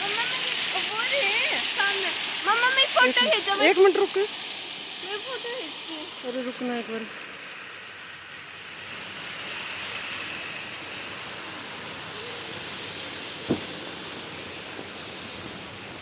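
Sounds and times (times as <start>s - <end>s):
high-pitched background hiss: 0.0s - 16.0s.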